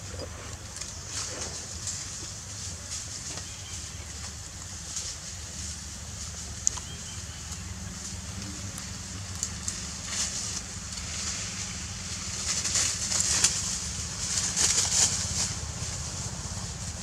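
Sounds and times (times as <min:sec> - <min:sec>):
leaves and twigs rustling: 0:00.0 - 0:17.0
steady low hum: 0:00.0 - 0:17.0.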